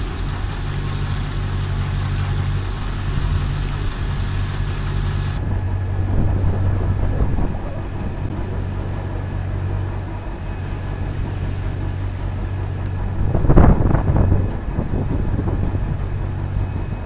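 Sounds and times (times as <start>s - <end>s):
motor boat engine droning: 0.0s - 17.0s.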